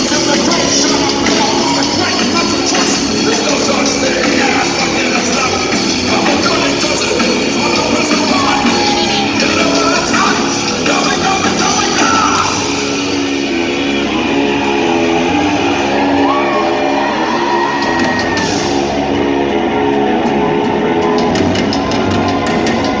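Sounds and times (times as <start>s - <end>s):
bass guitar: 0.0s - 23.0s
drums: 0.0s - 23.0s
electric guitar: 0.0s - 23.0s.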